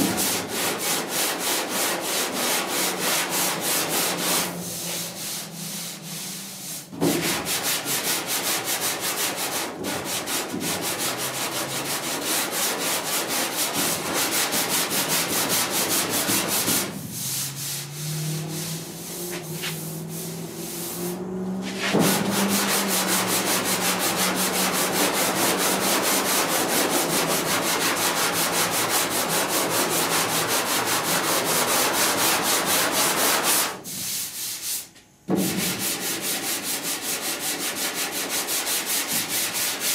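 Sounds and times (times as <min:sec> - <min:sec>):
hand sanding block rasping: 0:00.0 - 0:39.9.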